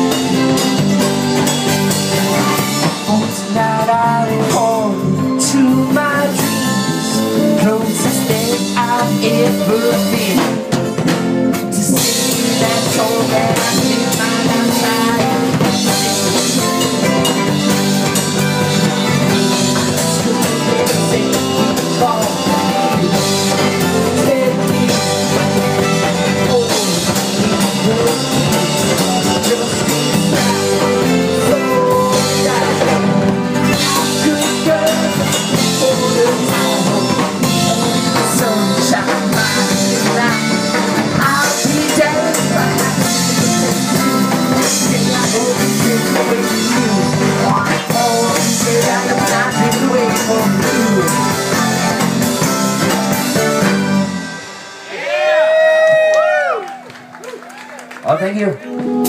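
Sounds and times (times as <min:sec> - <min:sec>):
person singing: 0:00.0 - 0:53.7
live band playing: 0:00.0 - 0:59.0.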